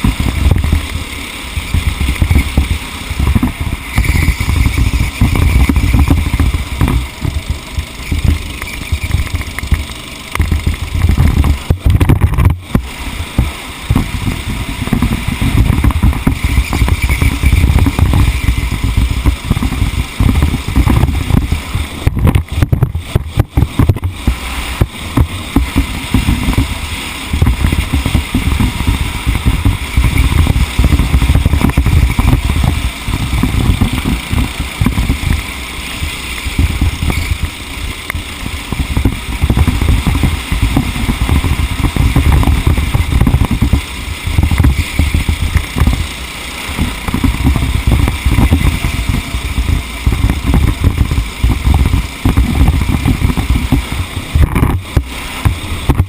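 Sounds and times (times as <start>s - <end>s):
race car engine running: 0.0s - 56.0s
wind buffeting microphone: 0.0s - 56.0s.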